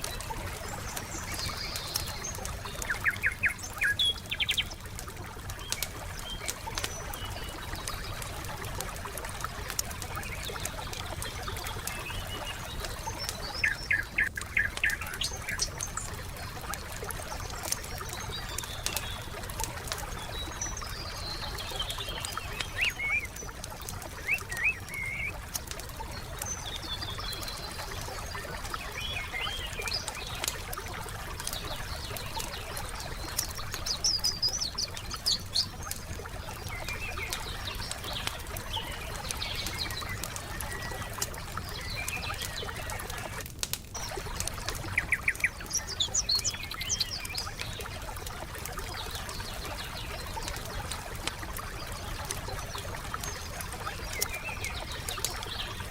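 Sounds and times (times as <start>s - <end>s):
campfire crackling and popping: 0.0s - 55.9s
songbirds chirping and trilling: 0.0s - 55.9s.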